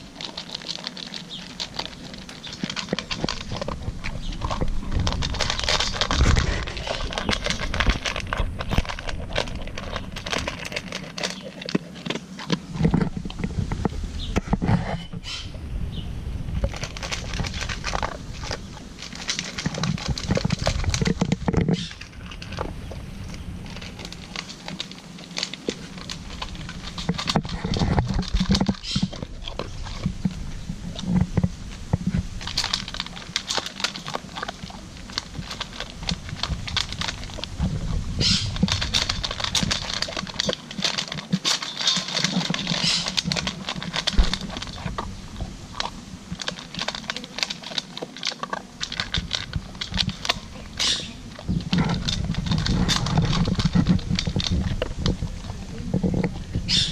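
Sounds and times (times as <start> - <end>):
dog crunching kibble: 0.0 - 15.4, 16.4 - 56.9.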